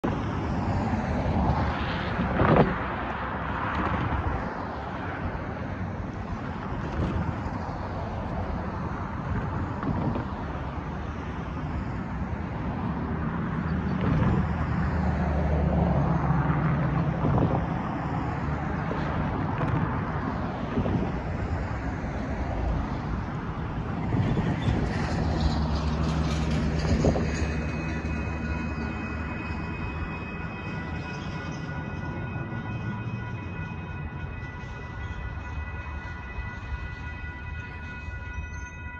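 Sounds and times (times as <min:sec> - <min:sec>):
cars passing: 0:00.0 - 0:38.9
heavy vehicle engine droning: 0:00.0 - 0:38.9
wind buffeting microphone: 0:00.0 - 0:38.9.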